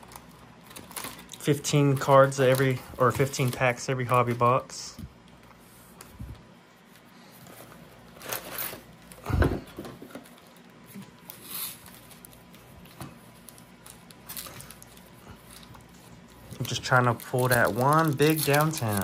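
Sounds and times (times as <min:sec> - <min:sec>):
cardboard packs rustling: 0:00.0 - 0:04.6, 0:07.3 - 0:19.0.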